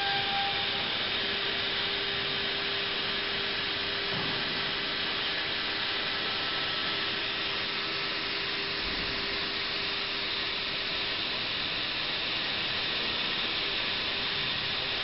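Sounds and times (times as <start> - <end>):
cnc router running: 0.0 - 15.0.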